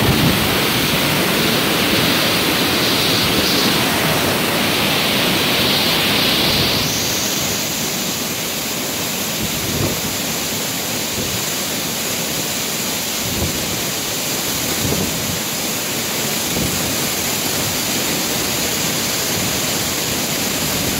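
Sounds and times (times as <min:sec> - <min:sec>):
waterfall rushing onto rock: 0:00.0 - 0:20.9.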